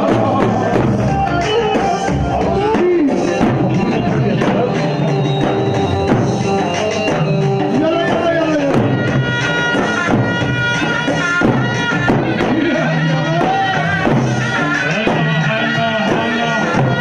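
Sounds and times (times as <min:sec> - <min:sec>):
hand drum beats: 0:00.0 - 0:17.0.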